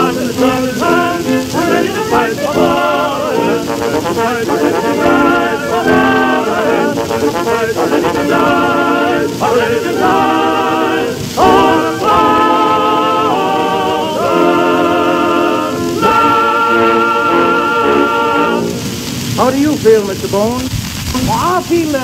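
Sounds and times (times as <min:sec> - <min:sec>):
male chorus singing in harmony: 0:00.0 - 0:19.0
phonograph recording hiss: 0:00.0 - 0:22.0.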